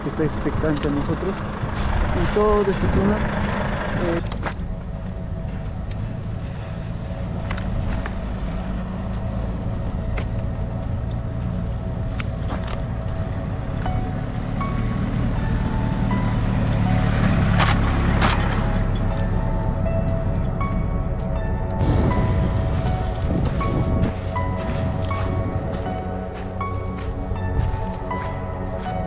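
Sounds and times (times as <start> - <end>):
large engine humming: 0.0 - 29.0.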